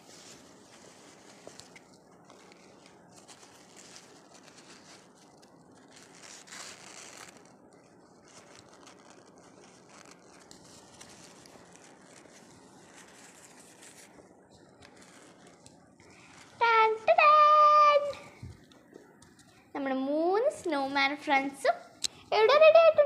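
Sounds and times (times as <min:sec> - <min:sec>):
ribbon and tissue paper rustling: 0:00.0 - 0:23.0.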